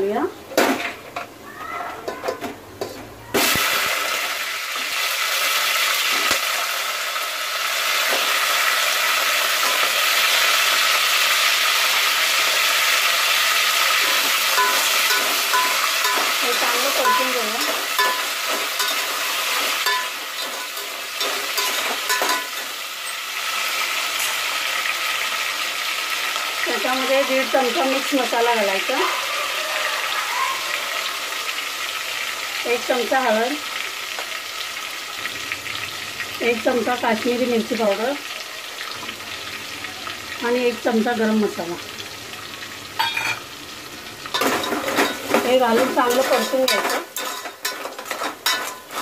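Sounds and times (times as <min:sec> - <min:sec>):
crabs sizzling in hot oil: 0:02.4 - 0:49.0.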